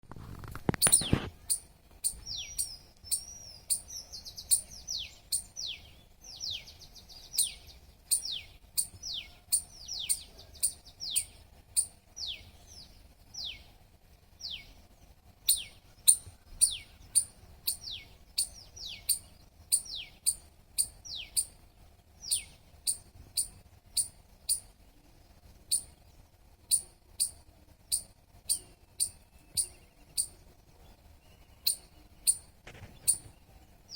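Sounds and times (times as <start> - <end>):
squirrel chirping: 0.8 - 13.7, 14.4 - 14.8, 15.4 - 21.6, 22.2 - 24.7, 25.7 - 26.0, 26.7 - 30.4, 31.6 - 33.3.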